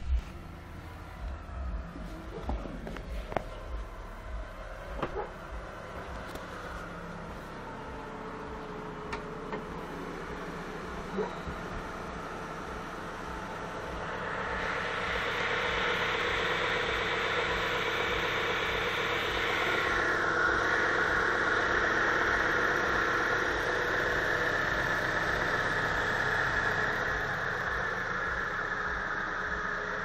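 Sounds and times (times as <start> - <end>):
car engine running: 0.0 - 30.0
whirring hiss: 0.8 - 30.0.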